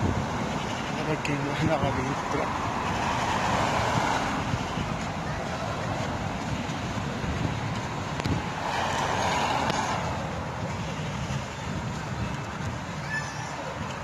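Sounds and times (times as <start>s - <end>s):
vehicle passing: 0.0s - 14.0s
wind on microphone: 0.0s - 14.0s.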